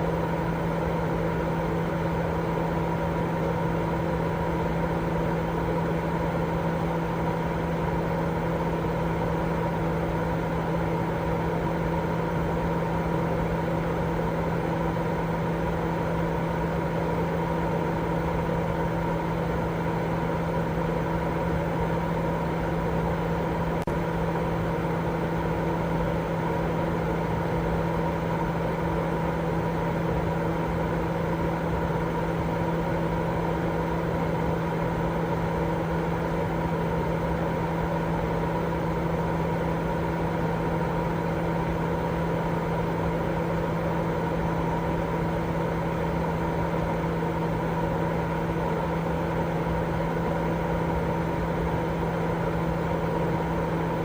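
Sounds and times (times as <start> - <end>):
steady white noise: 0.0 - 54.0.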